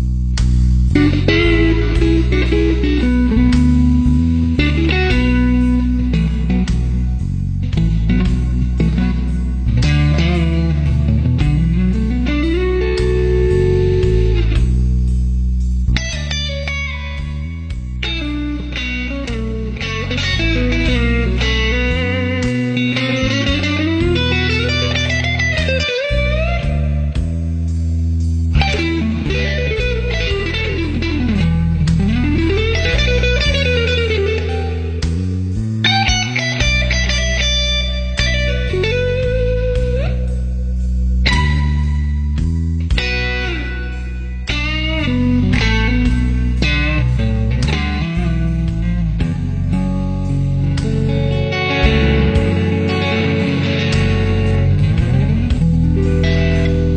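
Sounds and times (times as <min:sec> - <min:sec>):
electric guitar bending notes: 0:00.0 - 0:56.9
steady bass line: 0:00.0 - 0:56.9.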